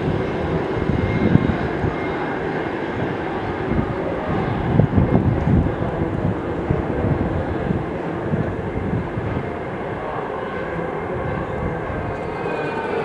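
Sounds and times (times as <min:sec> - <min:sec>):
train rumbling on elevated track: 0:00.0 - 0:13.0.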